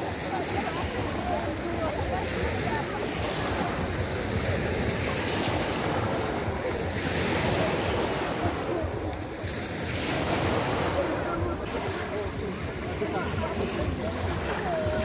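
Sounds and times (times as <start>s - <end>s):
small waves breaking on beach: 0.0s - 15.0s.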